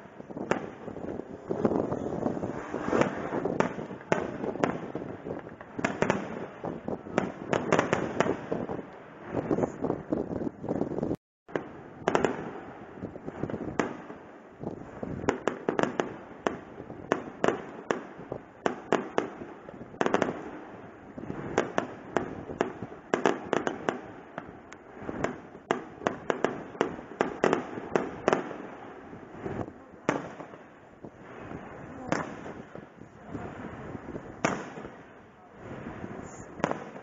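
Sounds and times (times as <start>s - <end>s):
fireworks bangs and cracks: 0.0s - 37.0s.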